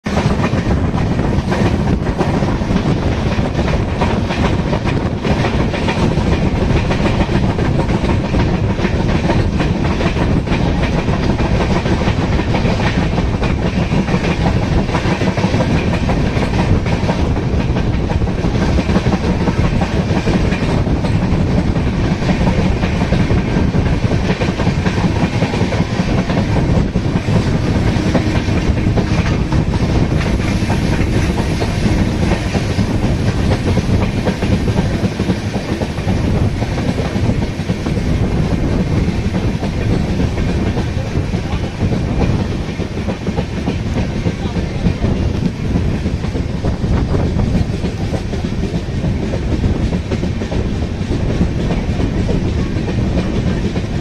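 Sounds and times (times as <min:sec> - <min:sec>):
train wheels rumbling on rails: 0:00.0 - 0:54.0
clacks over rail joints: 0:00.1 - 0:54.0.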